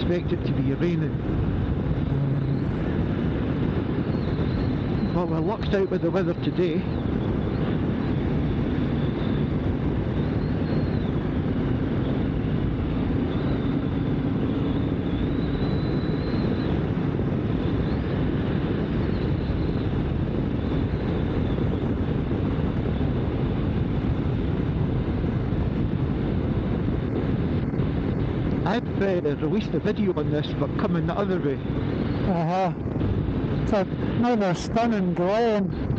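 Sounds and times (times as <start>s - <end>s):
motorcycle engine cruising: 0.0s - 35.9s
wind noise: 0.0s - 35.9s.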